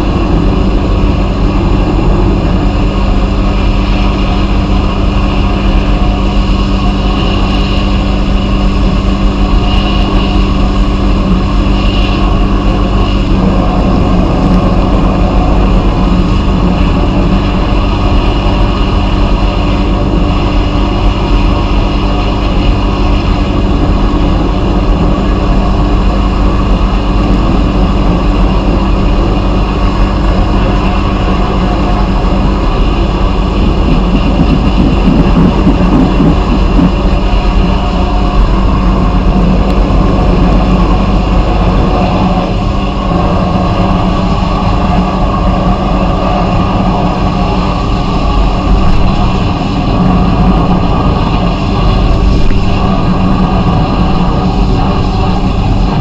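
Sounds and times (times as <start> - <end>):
loud blast hiss: 0.0 - 56.0
machine hum: 0.0 - 56.0.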